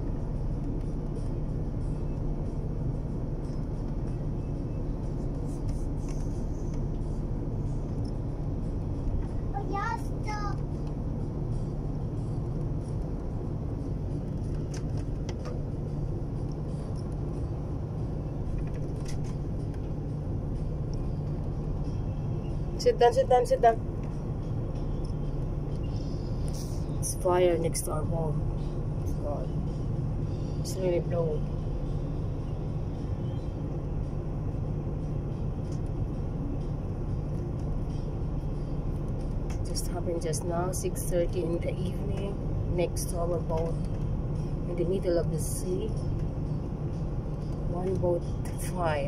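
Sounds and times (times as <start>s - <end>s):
boat engine rumble: 0.0s - 49.0s.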